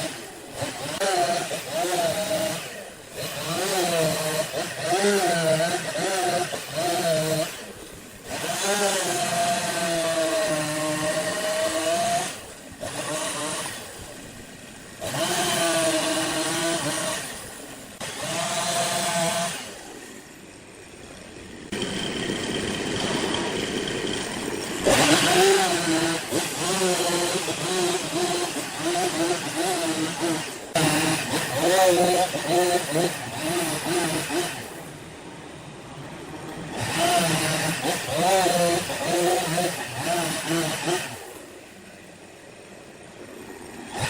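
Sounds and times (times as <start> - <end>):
chainsaw cutting wood: 0.0 - 35.0, 36.5 - 42.0, 43.2 - 44.0.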